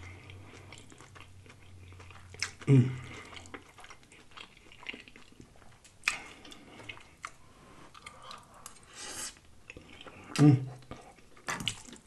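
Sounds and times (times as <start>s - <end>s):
chewing with wet smacks: 0.0s - 12.0s.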